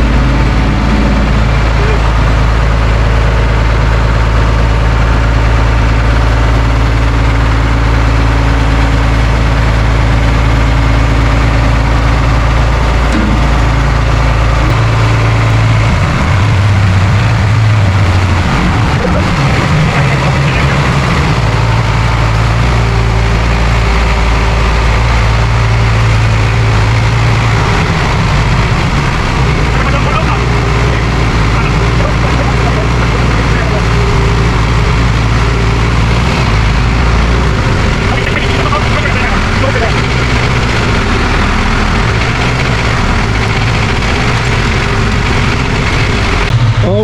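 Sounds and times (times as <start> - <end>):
heavy machine engine idling: 0.0 - 47.0.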